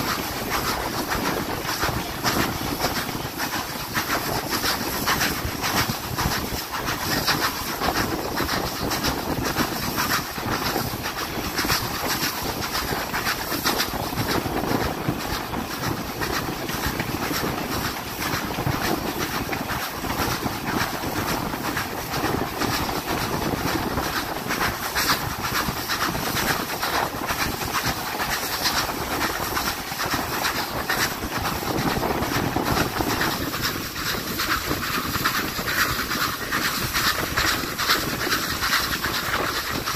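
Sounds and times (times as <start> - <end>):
steam train rumbling: 0.0 - 39.9
wheels clicking on rails: 0.0 - 39.9.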